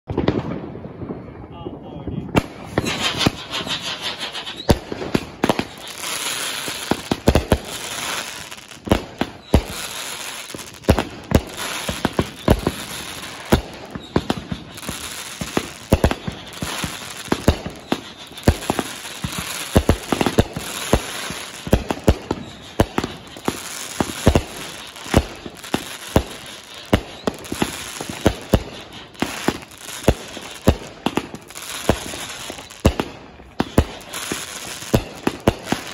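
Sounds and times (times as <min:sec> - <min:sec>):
firework reports: 0:00.1 - 0:35.9
firework crackling: 0:02.3 - 0:35.9
firework whistling: 0:02.4 - 0:35.9.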